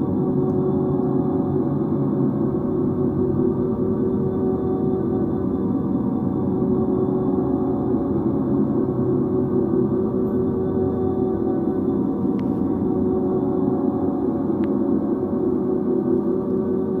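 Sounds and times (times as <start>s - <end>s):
drone music low tones: 0.0s - 17.0s.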